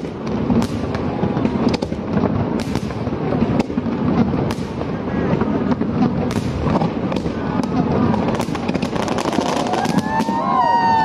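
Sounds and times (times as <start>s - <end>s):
fireworks bursting: 0.0s - 11.0s
sharp firework bangs: 0.0s - 11.0s.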